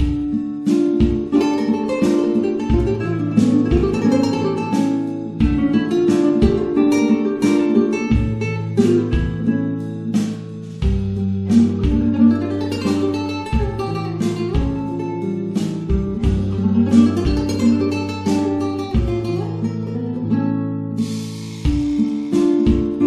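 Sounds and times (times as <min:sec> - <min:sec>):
acoustic guitar music: 0:00.0 - 0:23.0.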